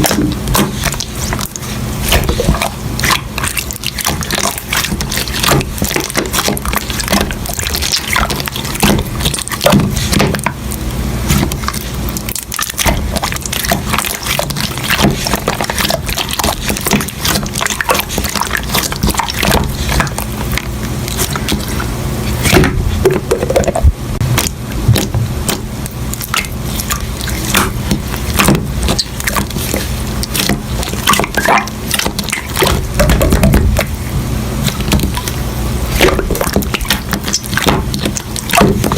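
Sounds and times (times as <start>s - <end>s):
hands squishing slime: 0.0s - 38.9s
wet squelches: 0.0s - 38.9s.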